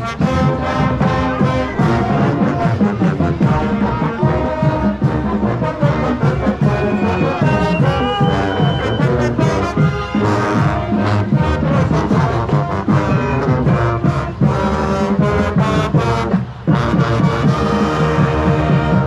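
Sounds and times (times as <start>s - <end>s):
marching band brass playing: 0.0s - 19.0s.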